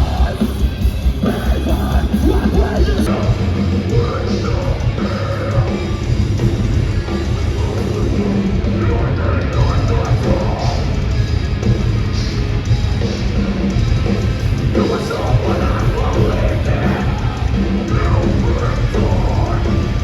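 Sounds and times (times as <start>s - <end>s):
distorted guitars: 0.0s - 20.0s
heavy metal band playing: 0.0s - 20.0s
pounding drums: 0.0s - 20.0s.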